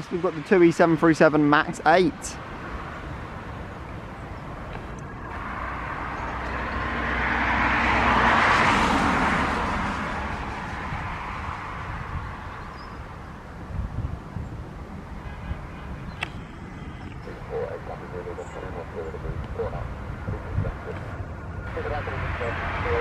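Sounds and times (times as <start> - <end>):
jet engines at takeoff: 0.0 - 15.2, 15.8 - 23.0.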